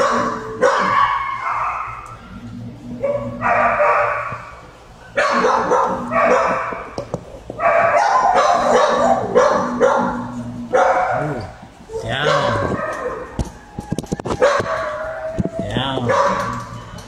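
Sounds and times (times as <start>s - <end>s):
dogs barking: 0.0s - 16.9s
steady low hum: 0.0s - 17.0s.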